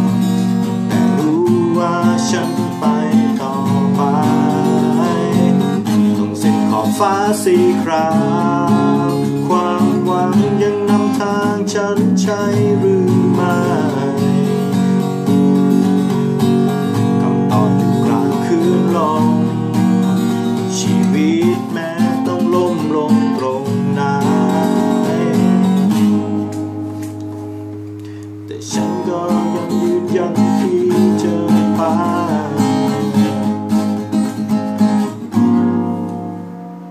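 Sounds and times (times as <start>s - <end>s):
acoustic guitar strumming: 0.0s - 36.9s.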